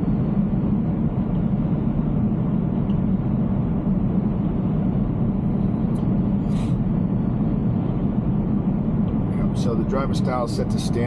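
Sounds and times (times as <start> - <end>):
road and tyre noise in car cabin: 0.0 - 11.0.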